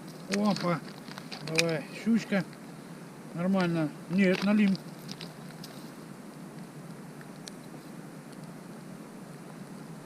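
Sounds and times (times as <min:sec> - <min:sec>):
wind: 0:00.0 - 0:10.0.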